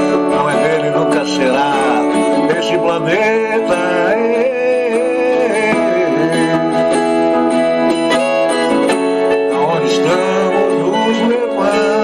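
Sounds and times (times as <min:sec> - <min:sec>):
plucked guitar: 0:00.0 - 0:12.0.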